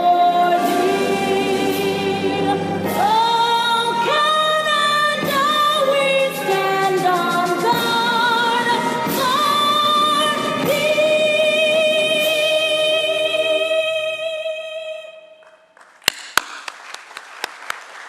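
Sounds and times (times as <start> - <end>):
person singing an anthem: 0.0 - 15.3.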